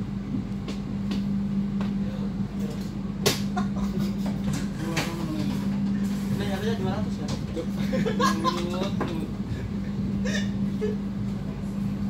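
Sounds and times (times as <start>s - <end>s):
train carriage hum: 0.0s - 12.0s.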